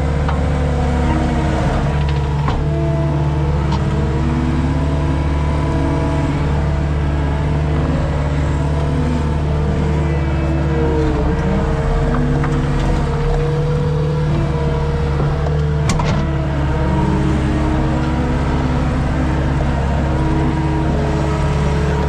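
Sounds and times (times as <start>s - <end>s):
skid steer engine running: 0.0s - 22.0s.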